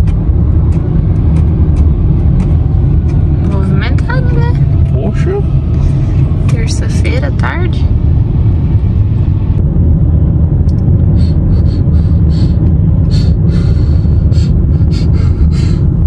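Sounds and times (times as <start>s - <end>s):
car interior rumble: 0.0s - 16.0s
road and wind noise: 0.0s - 16.0s.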